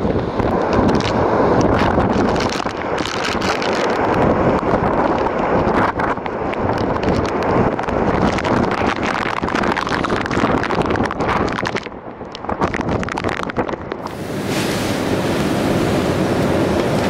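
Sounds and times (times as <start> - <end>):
wind buffeting microphone: 0.0 - 17.0
rain spattering: 0.3 - 17.0.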